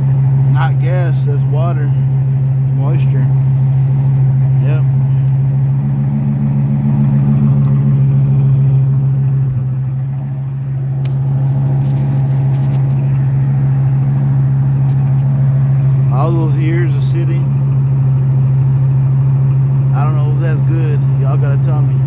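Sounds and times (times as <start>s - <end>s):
motorhome engine idling: 0.0s - 22.0s.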